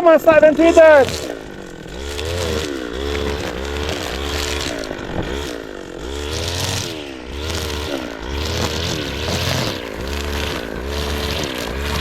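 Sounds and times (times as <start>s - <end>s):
string trimmer engine revving: 0.0s - 12.0s.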